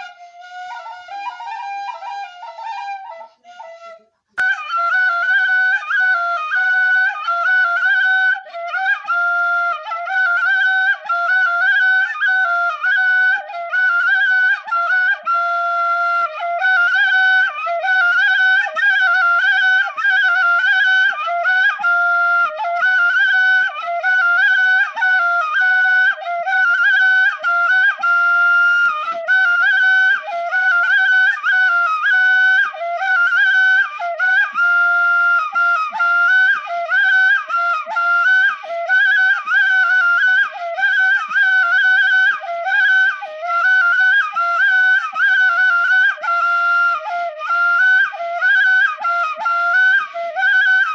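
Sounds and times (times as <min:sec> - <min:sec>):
flute melody: 0:00.0 - 0:50.9.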